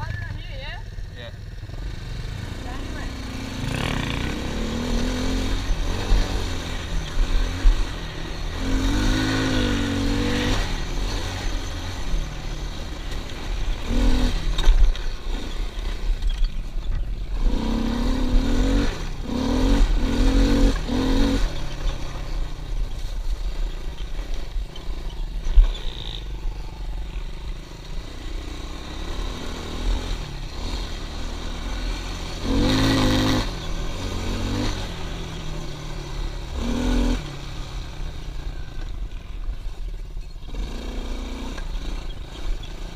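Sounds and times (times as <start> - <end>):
pit bike engine revving: 1.2 - 38.8, 40.4 - 42.9.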